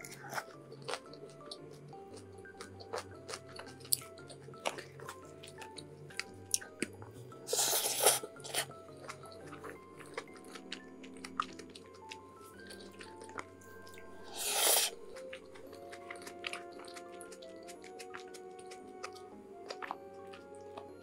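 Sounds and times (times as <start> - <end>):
chewing with wet mouth clicks: 0.0 - 21.0
loud noisy eating sound: 0.0 - 21.0
soft background music: 0.0 - 21.0.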